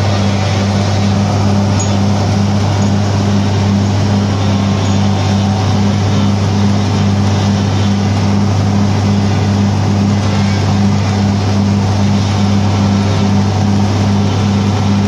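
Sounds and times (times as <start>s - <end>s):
forage harvester engine humming: 0.0s - 15.0s
loud rushing noise: 0.0s - 15.0s.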